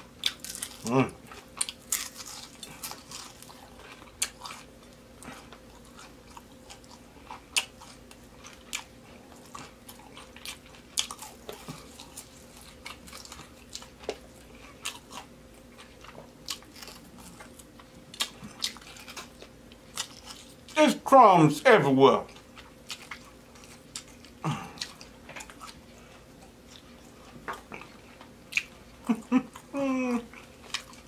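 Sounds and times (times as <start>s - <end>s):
crunching crispy food: 0.1s - 21.0s, 22.2s - 31.0s.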